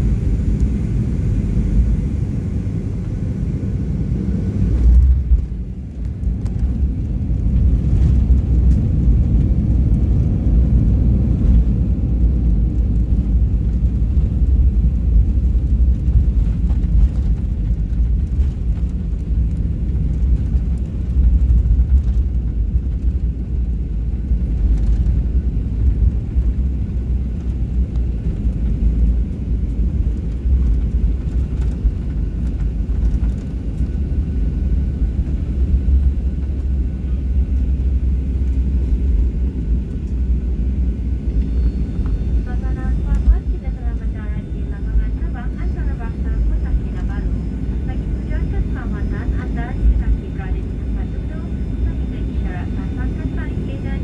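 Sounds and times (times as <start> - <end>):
airliner rumble on runway: 0.0 - 54.0.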